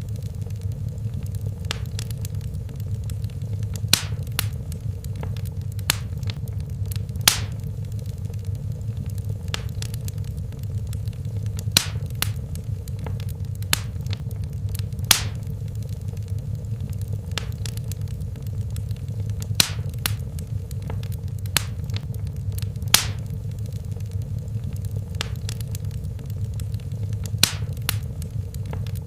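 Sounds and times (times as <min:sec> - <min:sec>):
fire crackling and popping: 0:00.0 - 0:29.0
fireplace flames rumbling: 0:00.0 - 0:29.0.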